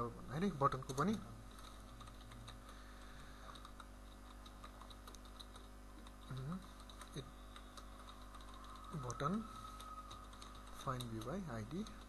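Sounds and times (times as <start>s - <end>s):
typing on a computer keyboard: 0.8s - 2.8s, 3.5s - 12.0s.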